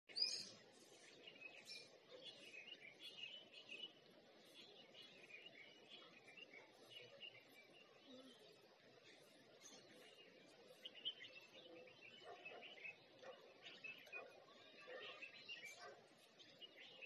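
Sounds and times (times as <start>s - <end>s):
birds chirping: 0.1s - 17.0s
low background noise: 0.1s - 17.0s.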